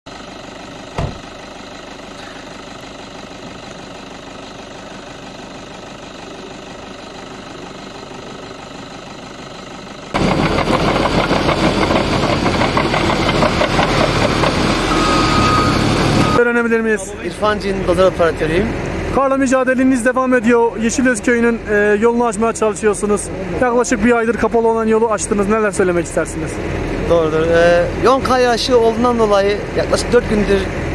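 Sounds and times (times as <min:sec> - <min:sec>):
bulldozer diesel engine running: 0:00.1 - 0:30.9
engine idling: 0:00.1 - 0:30.9.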